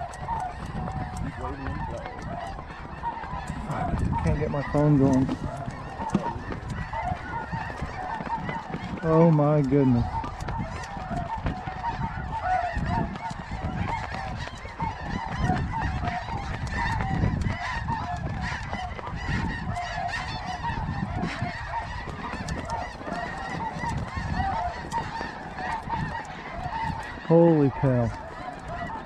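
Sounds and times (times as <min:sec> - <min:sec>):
geese honking: 0:00.0 - 0:29.0
wind buffeting microphone: 0:00.0 - 0:29.0.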